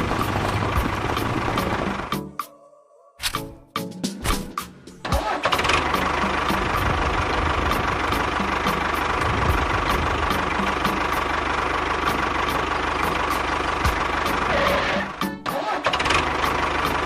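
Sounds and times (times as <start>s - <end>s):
small engine running: 0.0s - 2.2s, 5.1s - 17.0s.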